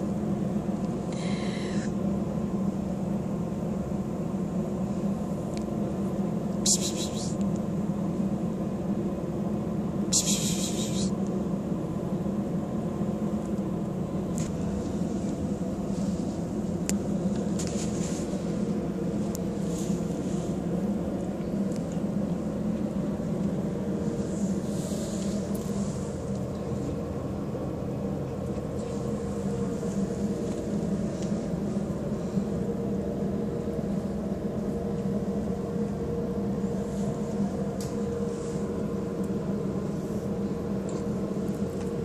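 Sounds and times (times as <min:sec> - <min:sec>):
air conditioner unit humming: 0:00.0 - 0:42.0.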